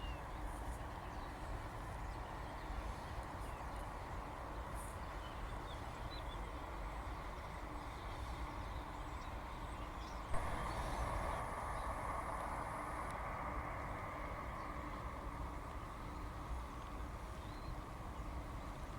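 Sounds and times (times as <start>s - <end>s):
outdoor background hiss: 0.0s - 18.9s.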